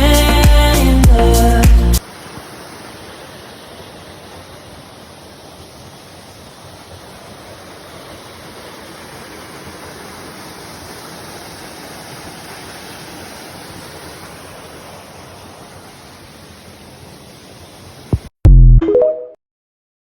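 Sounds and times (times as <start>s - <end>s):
waterfall roaring: 2.0s - 18.3s.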